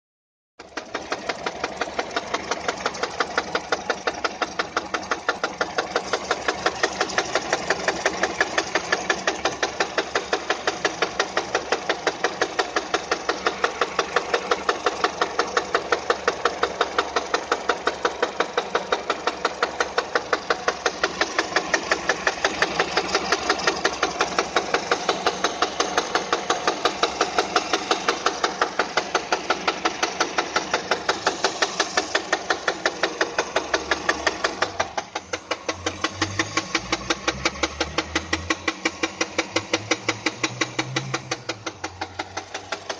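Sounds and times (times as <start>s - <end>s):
car engine idling: 0.6s - 42.9s
engine knocking: 0.6s - 42.9s.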